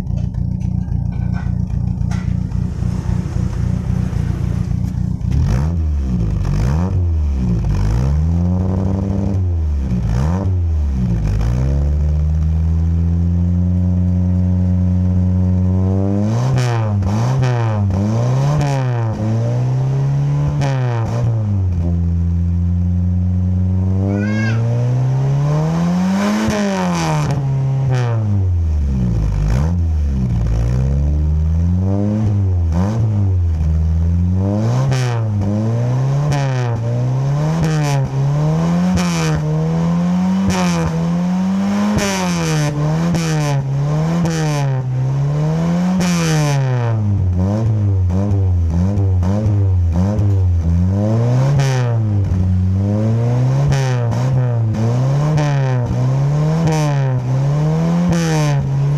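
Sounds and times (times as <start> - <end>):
engine revving: 0.0 - 58.9.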